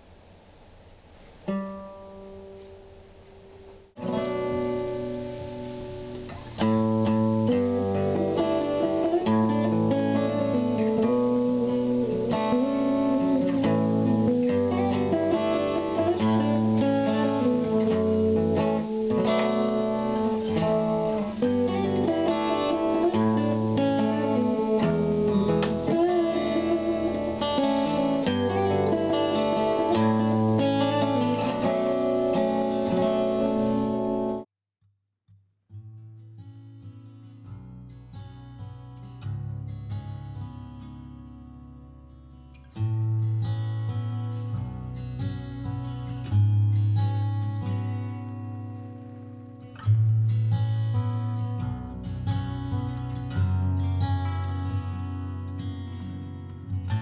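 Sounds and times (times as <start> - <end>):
acoustic guitars playing melody: 1.0 - 34.5, 35.7 - 57.0.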